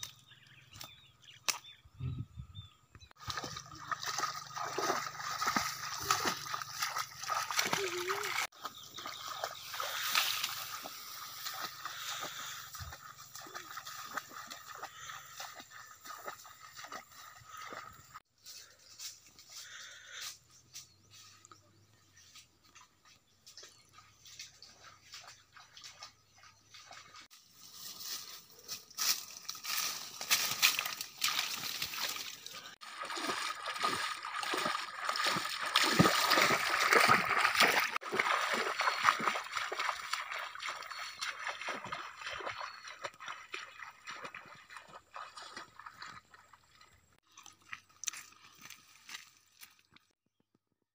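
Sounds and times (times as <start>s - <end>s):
footsteps wading through water: 3.1s - 18.2s, 22.2s - 50.2s.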